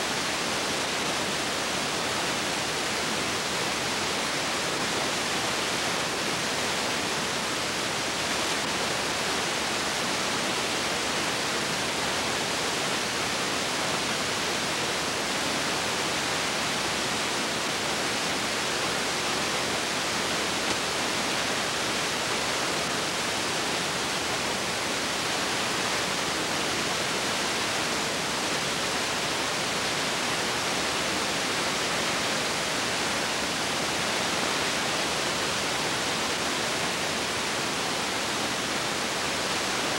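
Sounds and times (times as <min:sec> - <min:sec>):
recording noise hiss: 0:00.0 - 0:39.9.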